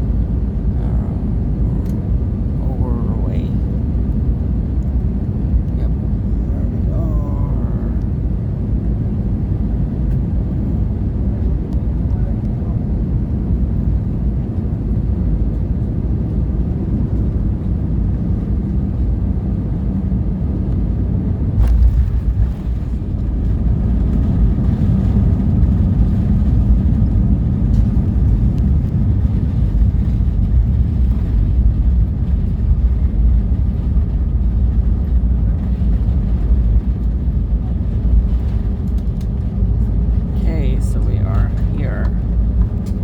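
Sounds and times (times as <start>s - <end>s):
aircraft cabin rolling rumble: 0.0s - 43.0s.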